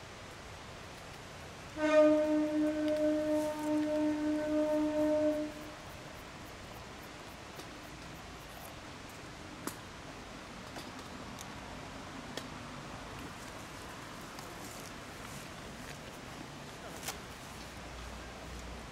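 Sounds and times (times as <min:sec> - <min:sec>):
background hiss: 0:00.0 - 0:18.9.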